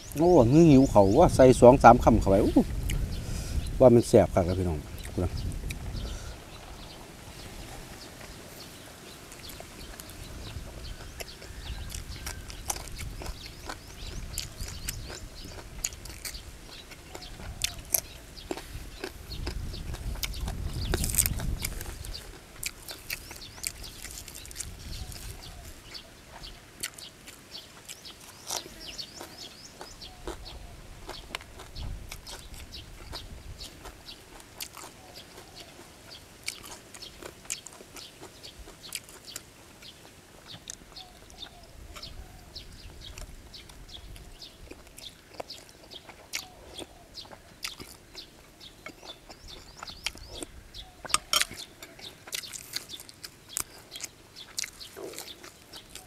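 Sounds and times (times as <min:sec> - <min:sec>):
person chewing and crunching food: 0:02.2 - 0:03.3, 0:05.0 - 0:56.0.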